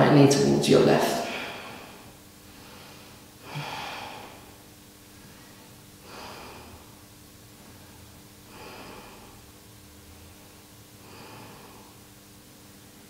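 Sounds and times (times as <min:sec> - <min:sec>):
faint steady hum: 0:00.0 - 0:13.0
man breathing slowly: 0:01.3 - 0:12.2.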